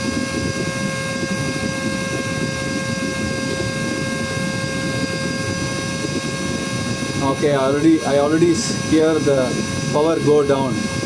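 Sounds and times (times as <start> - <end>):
vacuum motor whine: 0.0 - 11.0.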